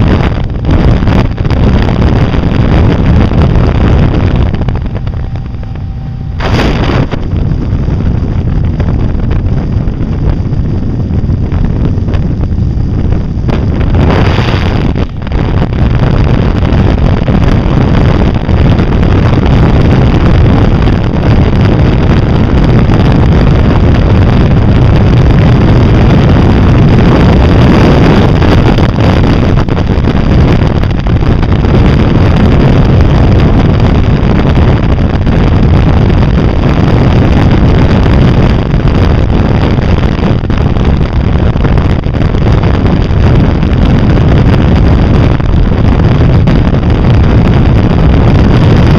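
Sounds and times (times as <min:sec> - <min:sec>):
vehicle engine and road noise: 0:00.0 - 0:48.9
wind rushing over microphone: 0:00.0 - 0:48.9.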